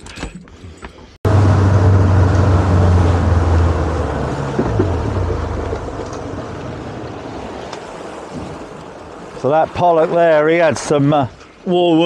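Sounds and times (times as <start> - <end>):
wind: 0.0 - 12.0
boat engine droning: 1.2 - 10.9
water noise: 1.3 - 12.0.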